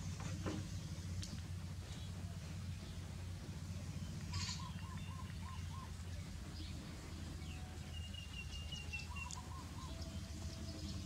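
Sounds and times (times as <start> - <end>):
birds calling: 0.0 - 11.0
steady low hum: 0.0 - 11.0.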